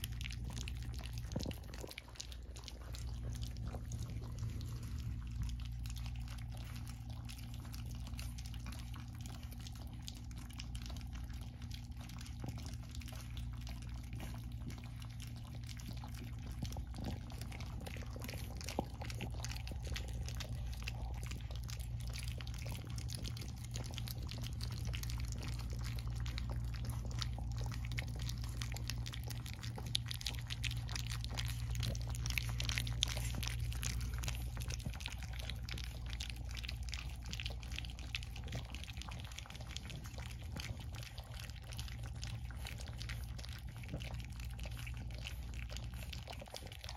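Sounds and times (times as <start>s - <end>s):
puppies lapping wet food: 0.0s - 46.9s
steady low hum: 0.0s - 46.9s.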